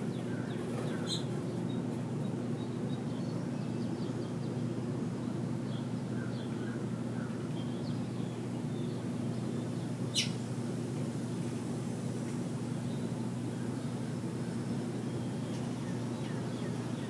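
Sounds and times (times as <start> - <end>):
songbirds chirping faintly: 0.0 - 17.0.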